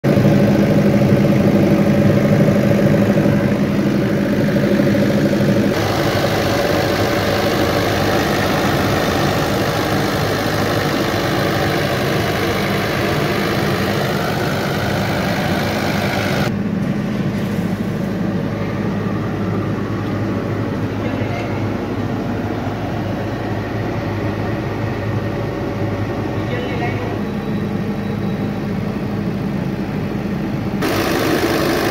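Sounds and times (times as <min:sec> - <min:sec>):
diesel generator running: 0:00.0 - 0:31.9.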